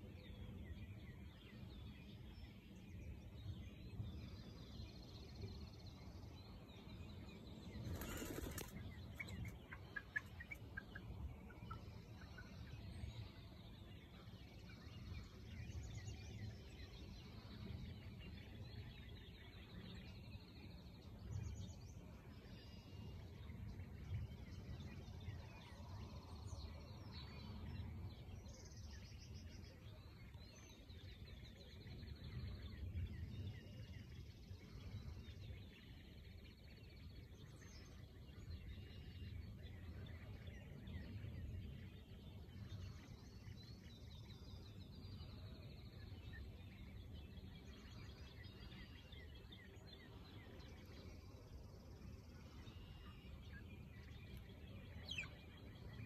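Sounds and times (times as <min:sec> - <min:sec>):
faint bird chirps: 0:00.0 - 0:56.0.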